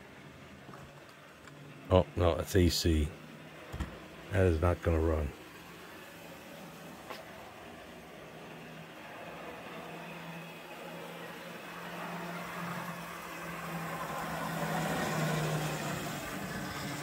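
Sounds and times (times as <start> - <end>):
model train motor hum: 0.0 - 17.0
wheels rolling on track: 0.0 - 17.0.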